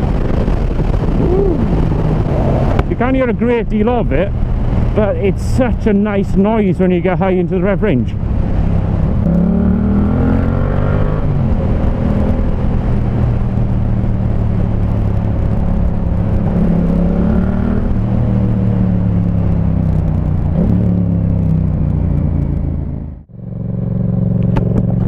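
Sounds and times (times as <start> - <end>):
motorcycle engine revving: 0.0 - 6.0, 8.1 - 25.0
wind noise on microphone: 0.0 - 23.3.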